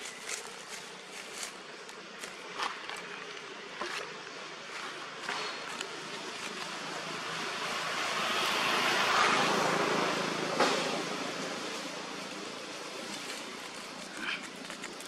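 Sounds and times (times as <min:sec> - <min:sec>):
broad rushing noise: 0:00.0 - 0:15.0.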